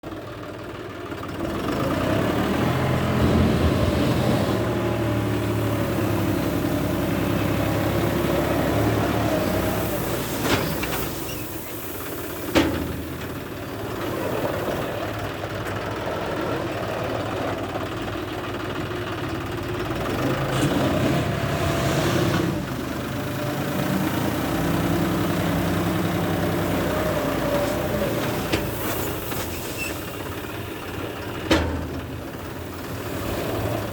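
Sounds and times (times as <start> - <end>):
tractor diesel engine: 0.0 - 33.9.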